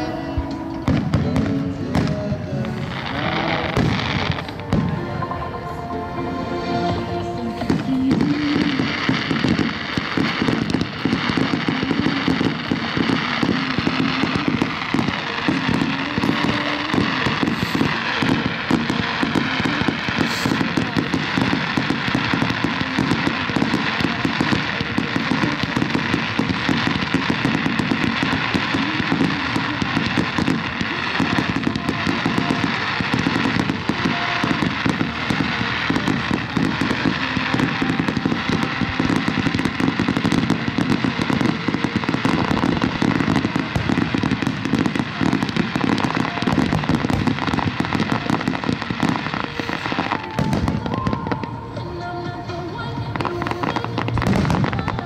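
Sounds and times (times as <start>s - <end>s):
fireworks popping and banging: 0.0s - 5.6s, 6.8s - 55.0s.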